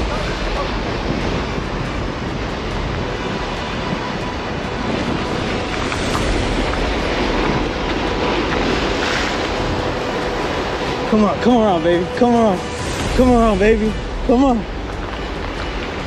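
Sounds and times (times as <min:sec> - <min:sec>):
surf washing against rocks: 0:00.0 - 0:16.0
wind rushing over microphone: 0:00.0 - 0:16.0.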